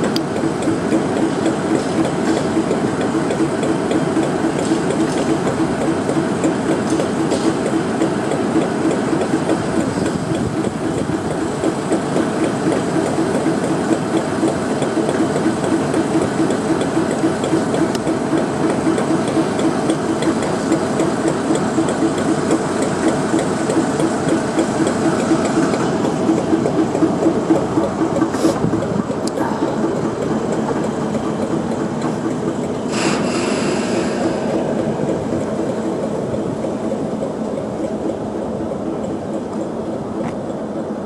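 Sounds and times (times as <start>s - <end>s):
diesel locomotive idling: 0.0s - 41.0s.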